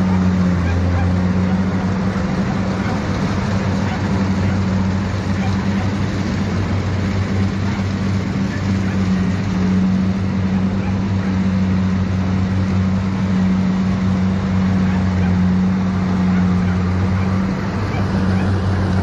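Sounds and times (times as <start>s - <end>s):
combine harvester engine humming: 0.0s - 19.0s.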